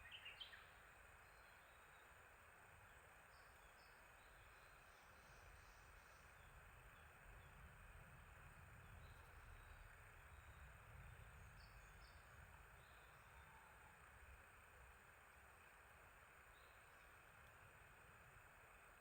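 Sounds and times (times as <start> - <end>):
small birds chirping: 0.0 - 14.5, 16.3 - 18.1
quiet hiss: 0.0 - 19.0.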